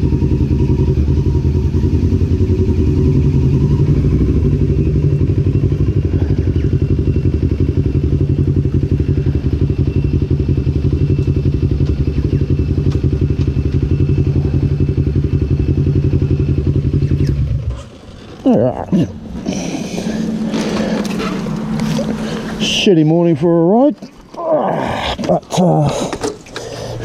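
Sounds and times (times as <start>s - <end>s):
motorcycle engine idling: 0.0s - 23.8s.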